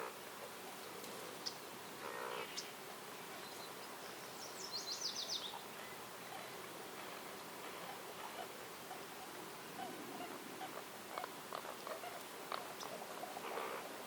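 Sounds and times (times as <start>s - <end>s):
outdoor ambience hiss: 0.0s - 14.0s
songbirds calling: 0.0s - 14.0s.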